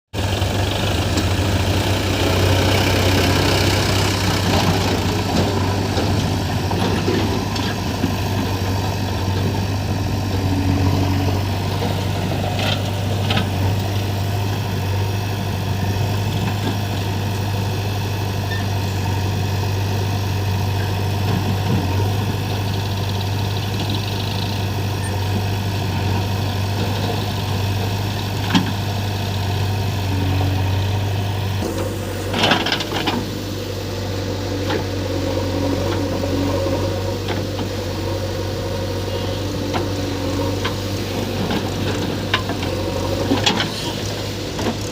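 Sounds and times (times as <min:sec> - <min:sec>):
diesel engine idling: 0:00.2 - 0:44.9.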